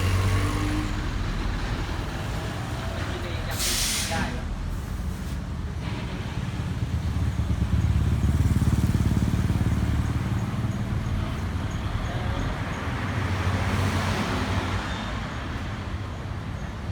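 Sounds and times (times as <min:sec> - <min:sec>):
road noise: 0:00.0 - 0:16.9
vehicle engine rumble: 0:00.0 - 0:16.9.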